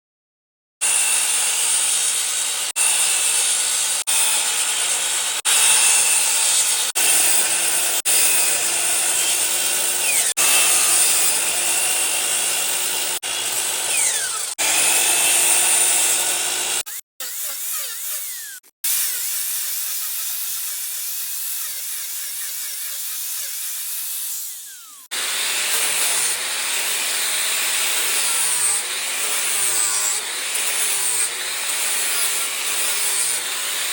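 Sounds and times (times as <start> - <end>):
power tools cutting wood: 0.8 - 33.9.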